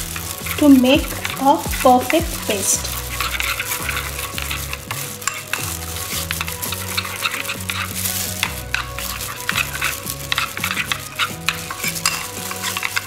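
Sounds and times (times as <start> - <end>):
spoon stirring wet paste: 0.0 - 13.0.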